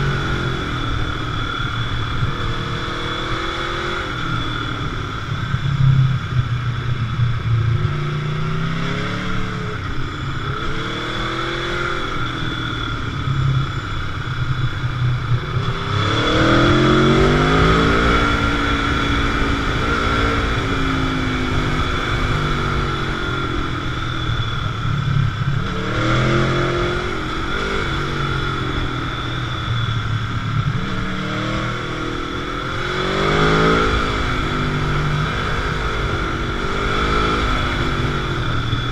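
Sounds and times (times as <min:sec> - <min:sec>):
motorcycle engine accelerating: 0:00.0 - 0:38.9
road and wind noise: 0:00.0 - 0:38.9.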